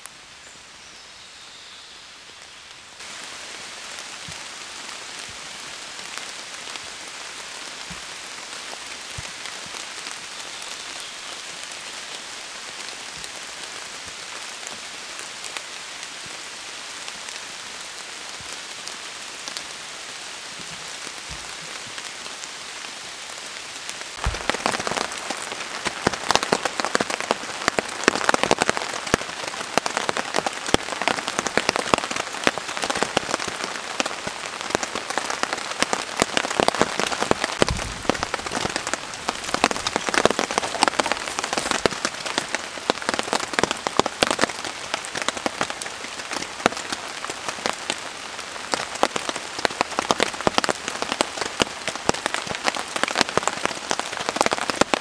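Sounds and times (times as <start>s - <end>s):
rain on a tarp: 0.0s - 55.0s.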